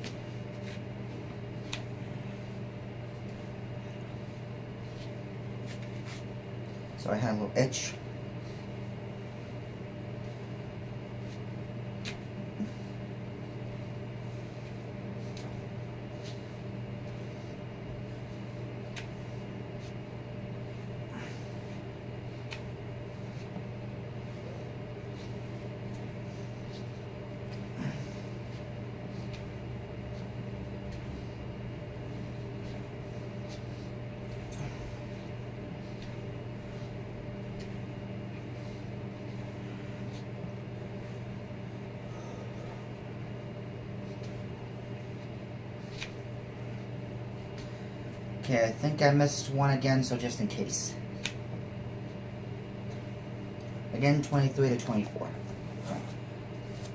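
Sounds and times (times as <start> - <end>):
machine hum: 0.0 - 56.9.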